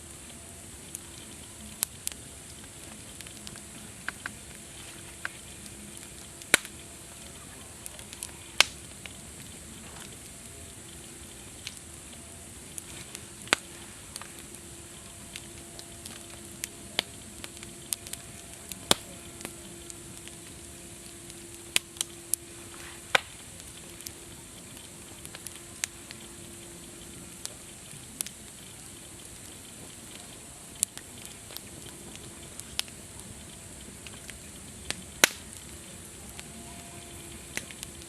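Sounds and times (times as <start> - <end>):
campfire wood crackling and popping: 0.0 - 38.0
soft fire hiss: 0.0 - 38.0.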